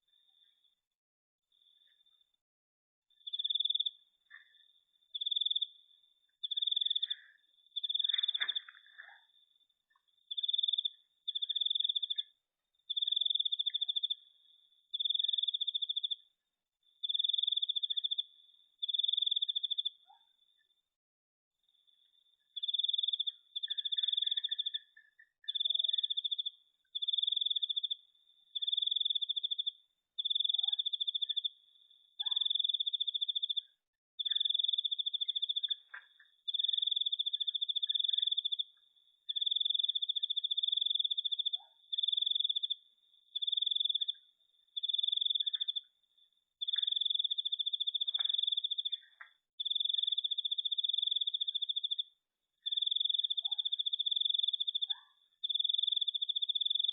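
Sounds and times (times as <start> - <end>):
cricket trilling: 3.2 - 5.8, 6.4 - 12.3, 12.9 - 14.2, 17.0 - 20.7, 21.8 - 56.9.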